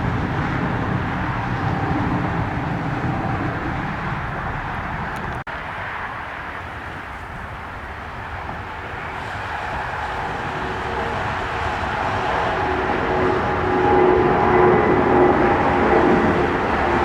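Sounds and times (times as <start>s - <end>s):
jet airliner passing: 0.0s - 17.0s.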